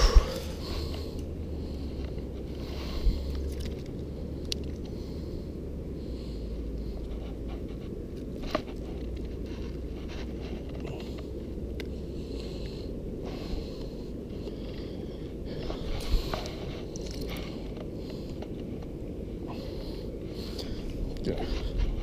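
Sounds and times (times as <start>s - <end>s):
faint clicks and scrapes: 0.0s - 5.1s, 6.5s - 22.0s
wind rumbling on microphone: 0.0s - 22.0s.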